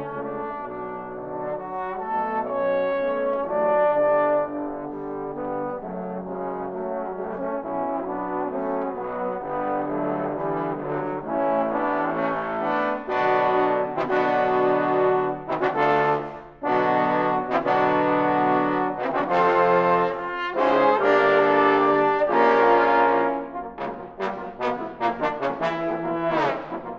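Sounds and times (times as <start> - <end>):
trombone ensemble playing chords: 0.0 - 26.9.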